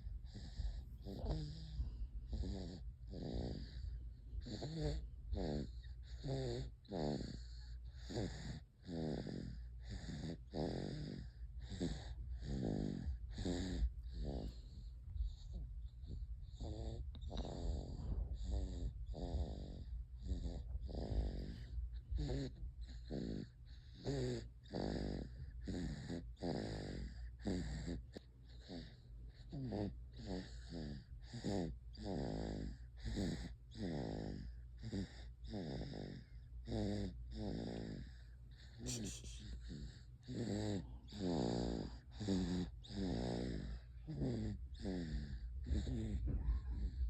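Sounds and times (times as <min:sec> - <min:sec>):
wheezy snoring: 0:00.0 - 0:47.0.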